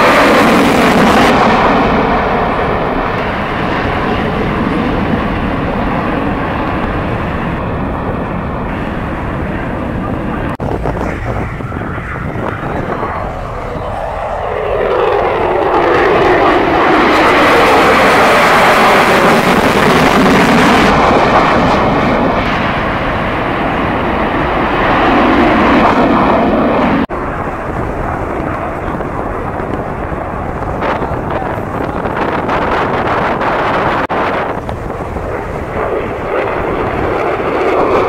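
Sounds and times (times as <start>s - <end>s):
jet passing: 0.0s - 38.0s.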